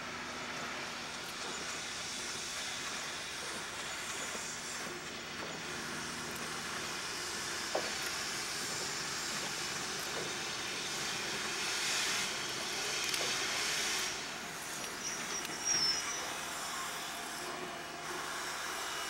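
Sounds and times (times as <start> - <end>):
steam locomotive hissing: 0.0 - 19.0.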